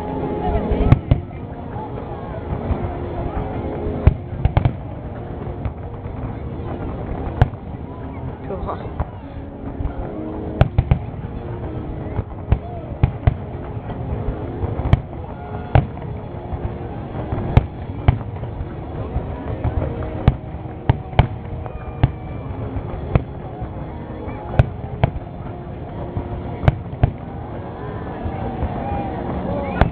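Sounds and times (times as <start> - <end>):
crowd voices: 0.0 - 29.9
fireworks bangs: 0.7 - 29.9.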